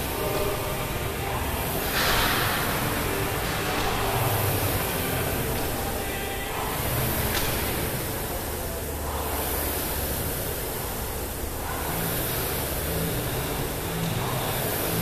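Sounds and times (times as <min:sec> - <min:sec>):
rowing machine flywheel whooshing: 0:00.0 - 0:15.0.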